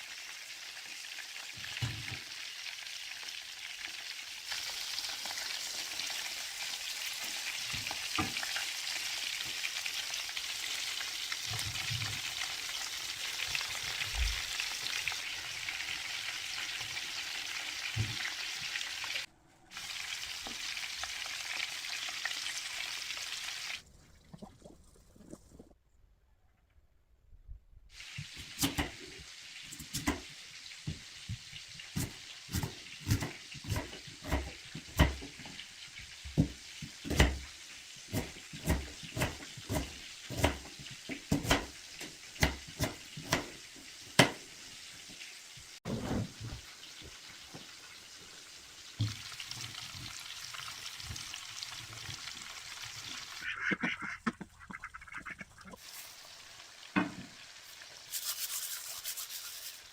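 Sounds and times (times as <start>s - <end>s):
food sizzling in a pan: 0.0s - 23.8s, 27.9s - 45.8s, 46.4s - 53.5s, 55.8s - 59.9s.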